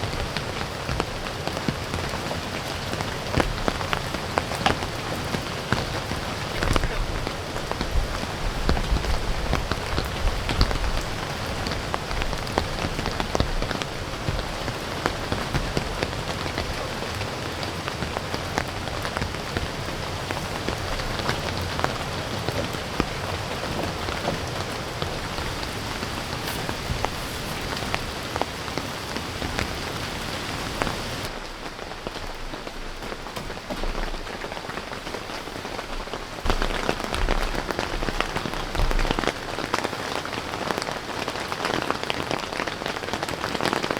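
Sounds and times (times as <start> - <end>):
raindrops ticking: 0.0 - 43.9
steady rain falling: 0.0 - 43.9.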